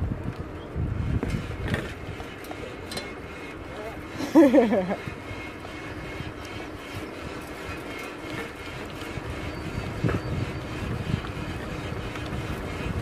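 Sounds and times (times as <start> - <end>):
tyres rolling on asphalt: 0.0 - 13.0
wind rumbling on microphone: 0.0 - 13.0
bicycle rattle: 0.1 - 13.0
bicycle bump: 0.2 - 13.0.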